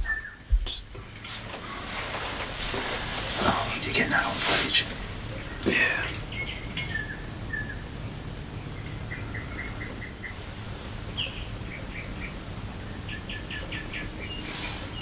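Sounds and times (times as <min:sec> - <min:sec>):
low background rumble: 0:00.0 - 0:15.0
small songbirds chirping: 0:00.0 - 0:15.0.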